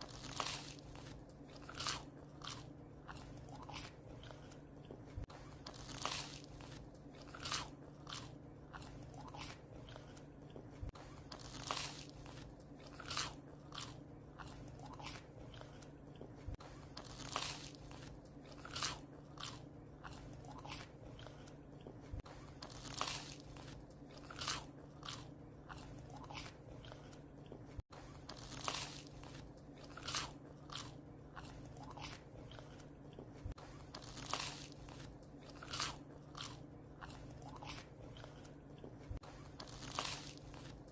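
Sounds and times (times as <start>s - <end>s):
dog crunching bread: 0.0s - 40.9s
steady low hum: 0.0s - 40.9s.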